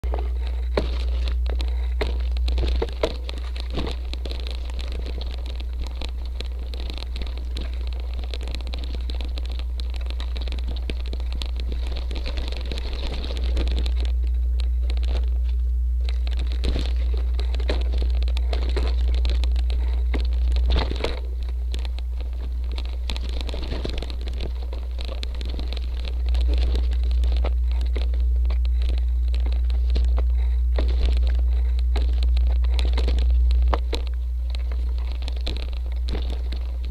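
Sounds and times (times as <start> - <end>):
bike rattling over stones: 0.0 - 36.9
bike tyres crunching on gravel: 0.0 - 36.9
low rumble: 0.0 - 36.9.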